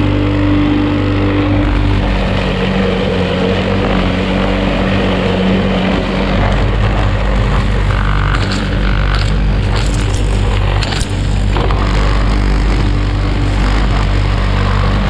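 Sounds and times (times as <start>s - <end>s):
lawn mower engine cutting grass: 0.0s - 15.0s.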